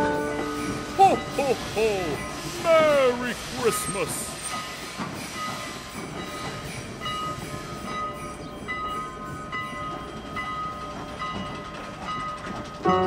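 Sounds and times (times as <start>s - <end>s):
rumble of train wheels: 0.0s - 13.0s.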